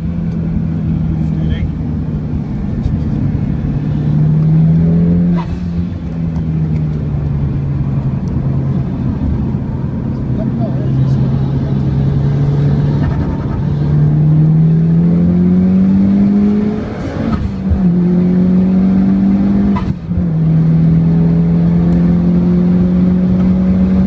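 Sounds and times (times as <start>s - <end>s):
car engine at full throttle: 0.0s - 24.0s.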